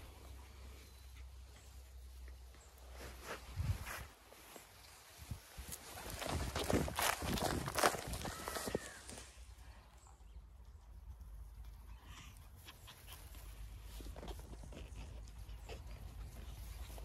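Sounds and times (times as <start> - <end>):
puppies running through grass: 0.0 - 9.6, 11.8 - 17.0.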